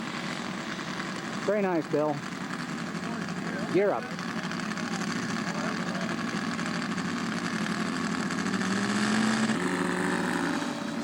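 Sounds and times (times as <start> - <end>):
model radial engine running: 0.0 - 11.0.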